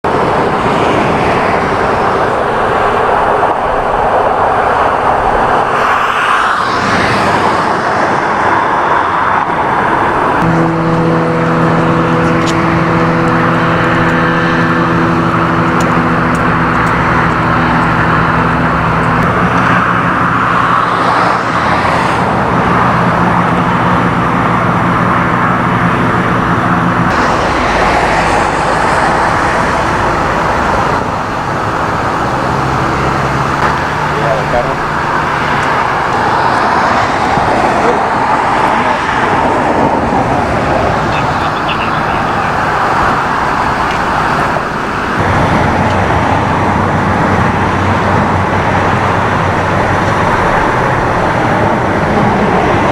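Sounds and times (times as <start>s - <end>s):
freeway traffic passing: 0.0s - 52.9s
vehicle engine humming: 0.0s - 52.9s.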